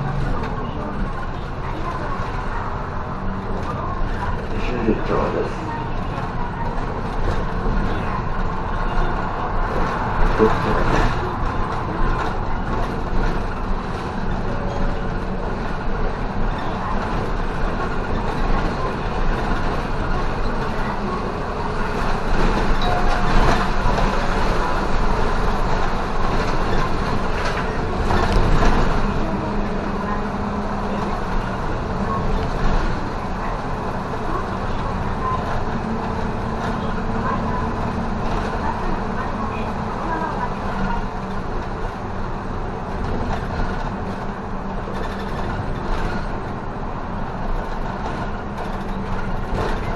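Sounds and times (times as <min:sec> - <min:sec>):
bus engine and tyres droning: 0:00.0 - 0:49.9.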